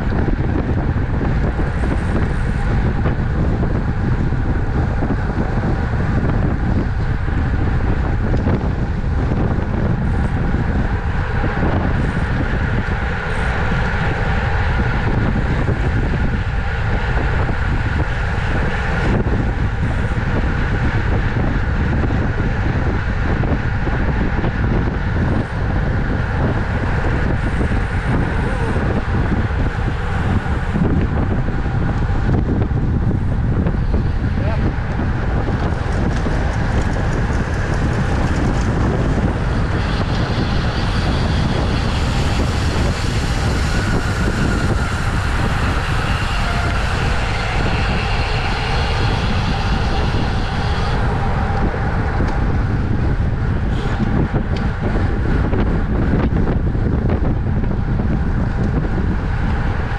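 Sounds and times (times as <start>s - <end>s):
wind rush over microphone: 0.0s - 59.9s.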